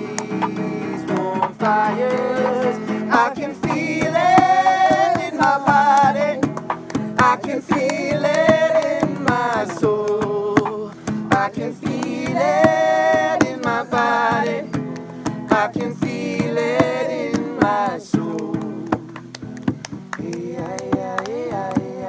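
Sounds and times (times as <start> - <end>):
voices singing: 0.0 - 19.5, 20.1 - 22.0
acoustic guitar strumming: 0.0 - 22.0
hands clapping: 0.0 - 22.0.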